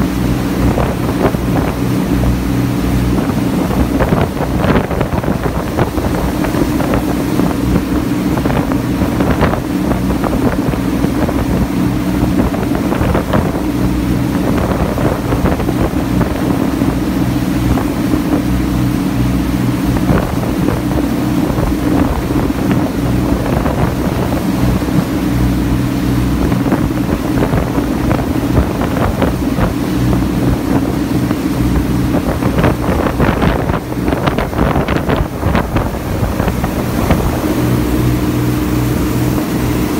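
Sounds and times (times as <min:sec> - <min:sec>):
ferry engine running: 0:00.0 - 0:39.9
wind gusting on microphone: 0:00.0 - 0:39.9.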